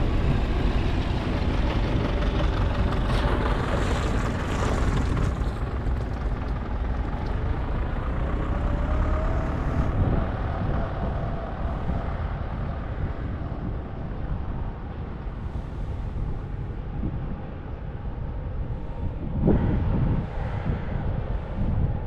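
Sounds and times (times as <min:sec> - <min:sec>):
tractor engines rumbling: 0:00.0 - 0:22.0.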